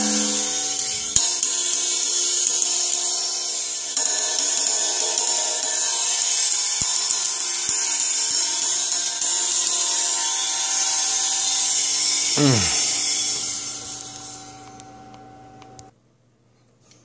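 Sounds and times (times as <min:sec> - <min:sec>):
ride cymbal with sizzle: 0:00.0 - 0:15.9.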